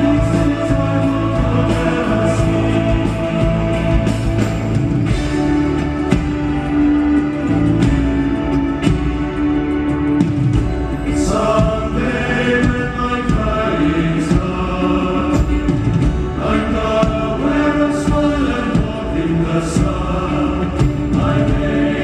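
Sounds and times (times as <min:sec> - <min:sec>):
live rock band: 0:00.0 - 0:22.0.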